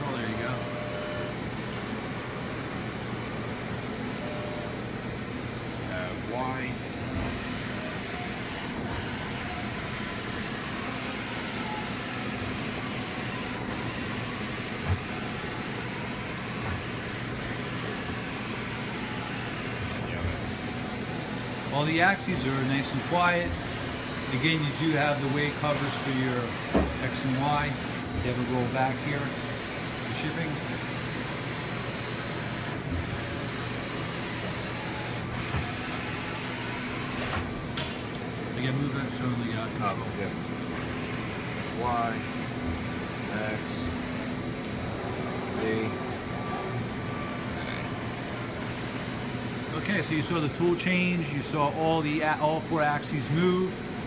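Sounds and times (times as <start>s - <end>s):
machine axis humming: 0.0s - 54.0s.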